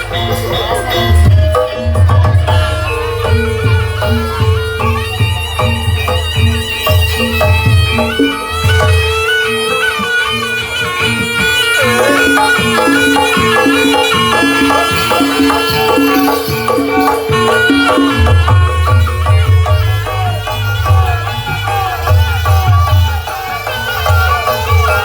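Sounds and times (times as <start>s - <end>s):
reedy wind instrument melody: 0.0s - 25.0s
regular percussion: 0.0s - 25.0s.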